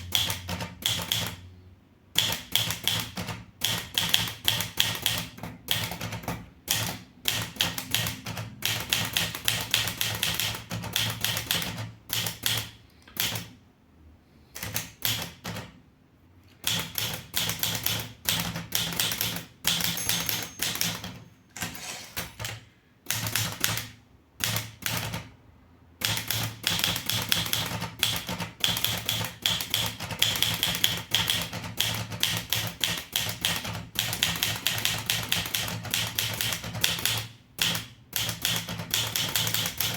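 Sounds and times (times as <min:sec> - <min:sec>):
typewriter keystrokes: 0:00.0 - 0:01.4, 0:02.2 - 0:13.6, 0:14.6 - 0:15.8, 0:16.5 - 0:25.3, 0:26.0 - 0:39.9.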